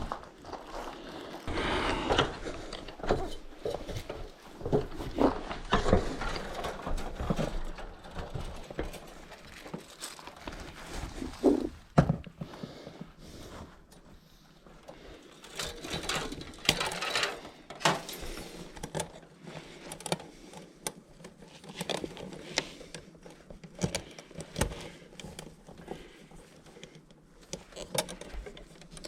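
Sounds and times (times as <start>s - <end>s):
tools and parts clicking and rattling: 2.1s - 12.4s, 14.8s - 29.0s.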